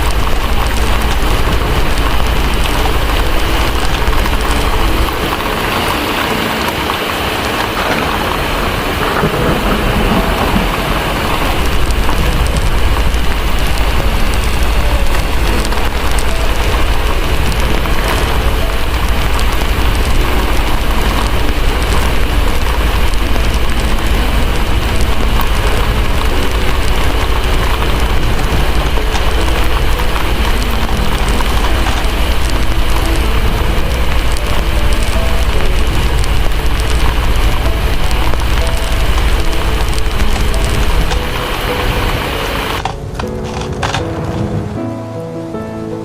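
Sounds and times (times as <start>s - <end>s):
distant thunder rumble: 0.0s - 45.5s
wood fire crackling: 0.0s - 45.5s
heavy rain: 0.0s - 46.0s.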